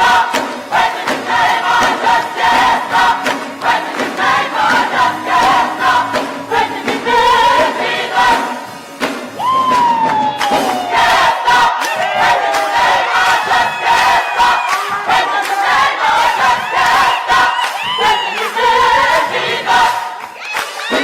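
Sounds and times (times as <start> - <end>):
steady beat: 0.0 - 20.2
choir singing gospel: 0.0 - 21.0.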